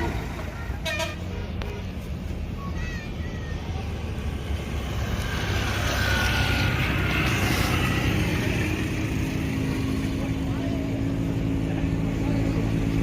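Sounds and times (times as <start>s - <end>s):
bus driving past: 0.0s - 13.0s.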